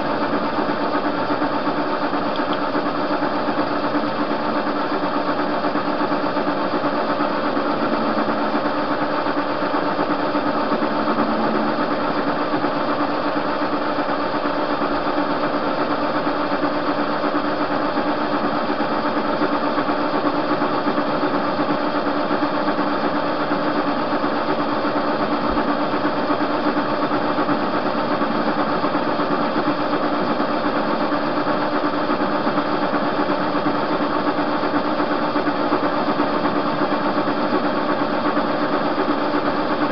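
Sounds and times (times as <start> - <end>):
metal lathe running: 0.0 - 39.9.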